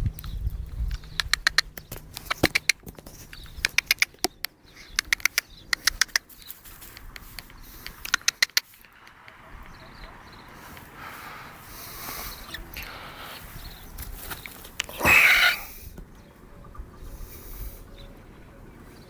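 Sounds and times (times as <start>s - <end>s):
hen making rapid sharp clicks: 0.1s - 15.8s.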